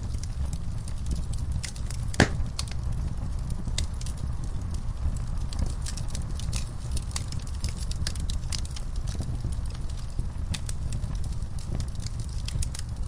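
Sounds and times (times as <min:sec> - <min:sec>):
fire crackles and pops: 0:00.0 - 0:13.0
fire rumbling: 0:00.0 - 0:13.0.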